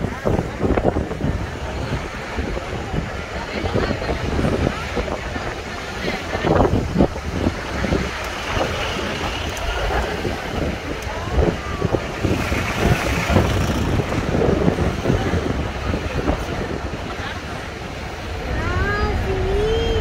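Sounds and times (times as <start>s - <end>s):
city street traffic: 0.0s - 20.0s
faint passengers' voices: 0.0s - 20.0s
steady low rumble: 0.0s - 20.0s
wind buffeting microphone: 0.0s - 20.0s.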